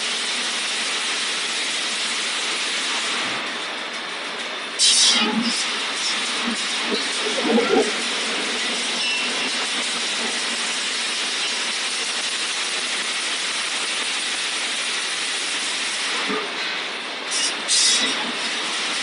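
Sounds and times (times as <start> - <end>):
weaving machine hissing: 0.0 - 19.0.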